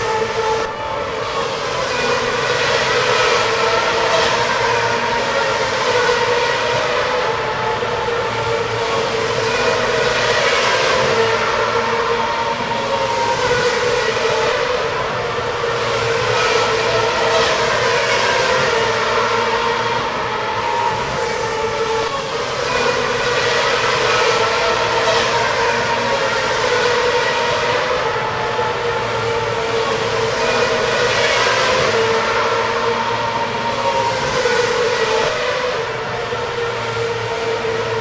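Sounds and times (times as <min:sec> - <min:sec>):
racing car engines revving: 0:00.0 - 0:38.0.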